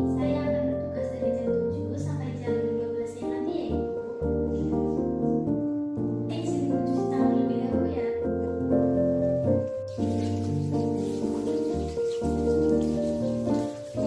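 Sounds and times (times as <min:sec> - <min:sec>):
keyboard melody with chords: 0:00.0 - 0:14.0.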